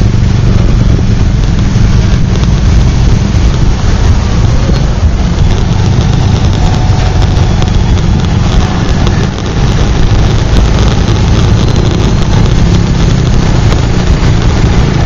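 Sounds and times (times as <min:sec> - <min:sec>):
motorcycle engine rumbling: 0:00.0 - 0:15.0
road noise: 0:00.0 - 0:15.0.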